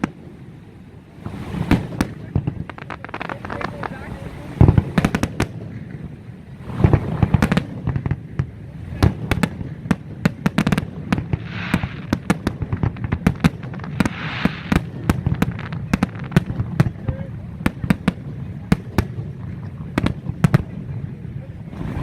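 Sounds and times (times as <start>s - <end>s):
firework hiss: 0.0s - 20.9s, 21.6s - 22.0s
firework bangs and cracks: 1.2s - 21.0s, 21.7s - 22.0s.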